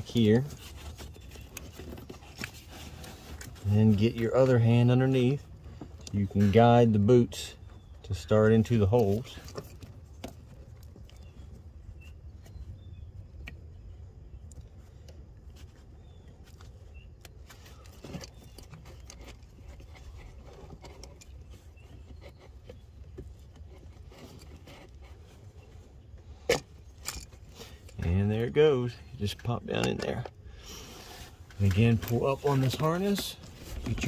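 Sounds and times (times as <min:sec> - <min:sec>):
faint clicks and rustling: 0:00.0 - 0:07.0, 0:07.6 - 0:34.0.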